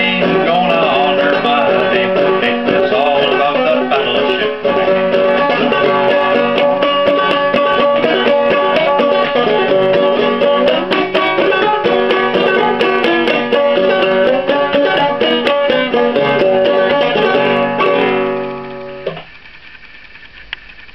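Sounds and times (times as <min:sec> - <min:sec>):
clawhammer banjo picking: 0:00.0 - 0:19.2.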